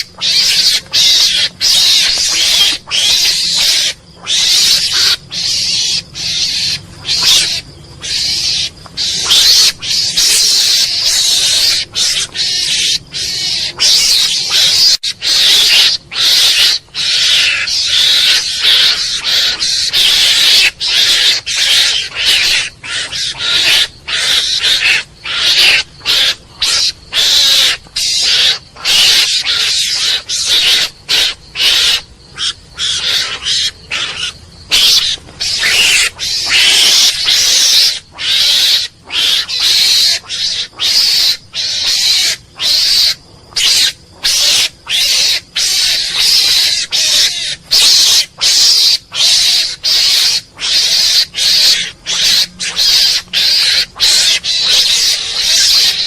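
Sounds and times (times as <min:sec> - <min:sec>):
mongoose hissing screeches: 0:00.0 - 0:56.0.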